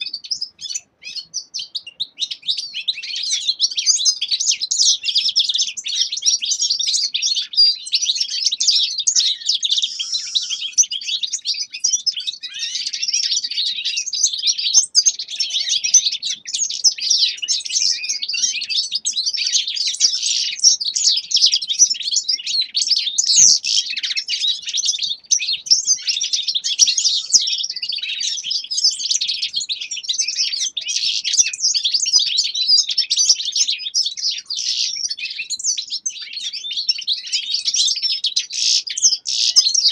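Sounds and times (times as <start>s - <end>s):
finches singing and twittering: 0.0s - 39.9s.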